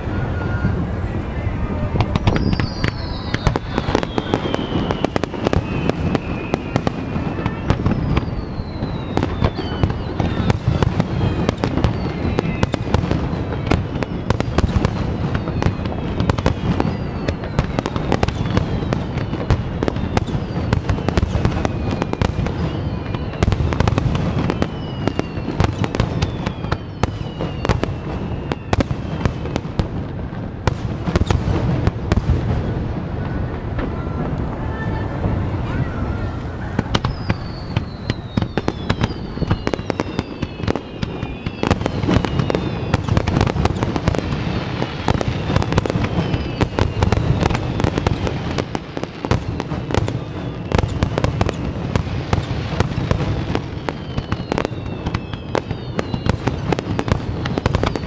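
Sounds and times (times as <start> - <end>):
falling firework whistles: 0.0 - 58.0
firework crackling: 0.0 - 58.0.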